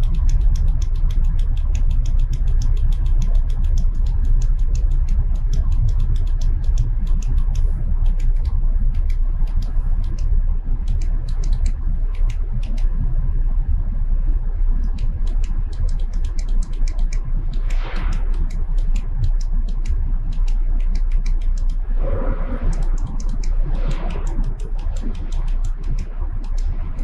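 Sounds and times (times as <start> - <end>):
quick light clicks: 0.0 - 13.1, 14.8 - 21.8, 22.6 - 27.0.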